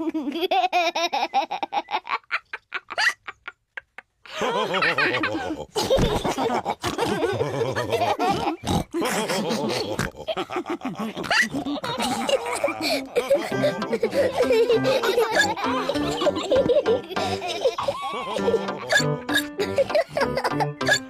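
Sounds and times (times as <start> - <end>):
cartoon pigs laughing and snorting: 0.0 - 21.0.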